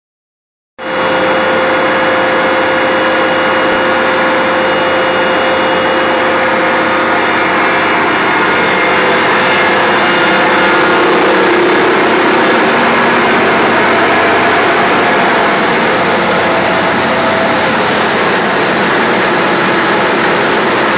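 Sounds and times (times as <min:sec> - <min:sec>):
silage blower rushing whine: 0:00.8 - 0:20.9
tractor diesel engine running: 0:00.8 - 0:20.9.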